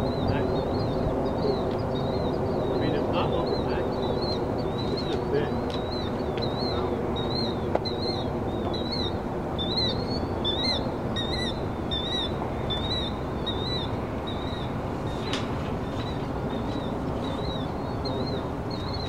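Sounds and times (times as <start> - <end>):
bird chirping: 0.0 - 19.0
low background rush: 0.0 - 19.0.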